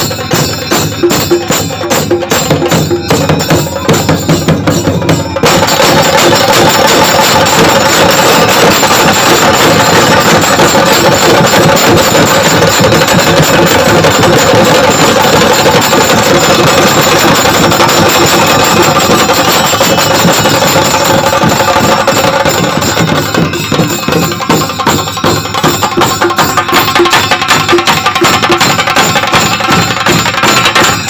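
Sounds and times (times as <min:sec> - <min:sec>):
drums beaten with sticks: 0:00.0 - 0:31.0.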